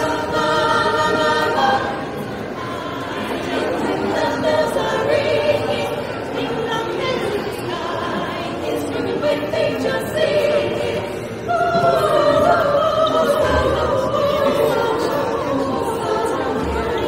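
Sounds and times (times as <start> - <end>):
vocal group singing in harmony: 0.0 - 17.0.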